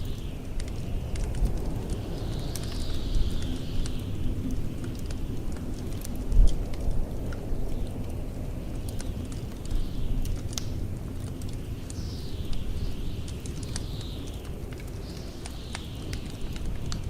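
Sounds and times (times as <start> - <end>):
blizzard wind rumbling and whistling: 0.0 - 17.0
wood fire crackling and popping: 0.0 - 17.0.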